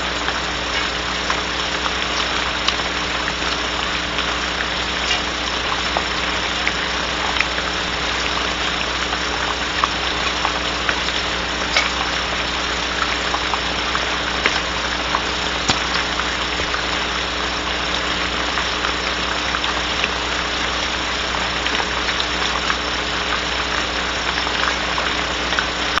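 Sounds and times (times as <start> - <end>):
constant electrical hum: 0.0 - 26.0
rain on wooden box: 0.0 - 26.0.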